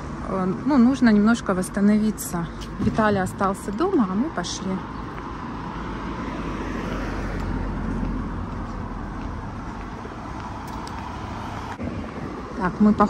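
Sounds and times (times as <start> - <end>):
cars passing: 0.0 - 13.0.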